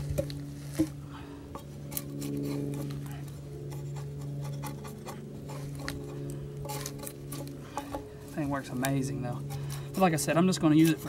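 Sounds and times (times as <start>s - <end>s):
low hum: 0.0s - 11.0s
draw knife scraping bark: 1.6s - 11.0s.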